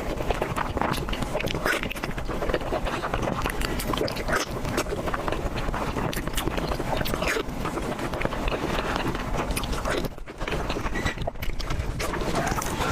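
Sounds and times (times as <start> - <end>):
person chewing: 0.0 - 12.9
wet mouth clicks and smacks: 0.0 - 12.9.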